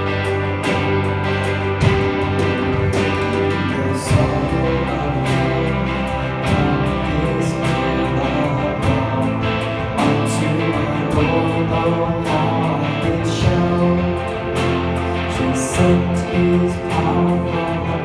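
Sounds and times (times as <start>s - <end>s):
bass: 0.0s - 18.0s
guitar: 0.0s - 18.0s
live band playing: 0.0s - 18.0s.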